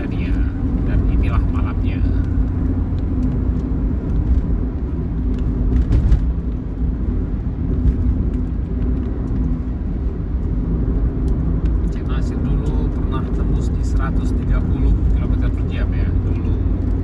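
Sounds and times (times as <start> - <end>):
vehicle driving on road: 0.0 - 17.0.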